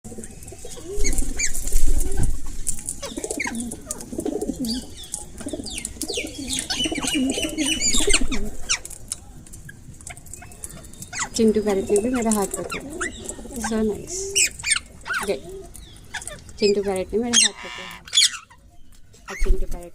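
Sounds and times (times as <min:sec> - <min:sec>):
parrots chirping and squawking: 0:00.5 - 0:09.0, 0:09.6 - 0:19.6.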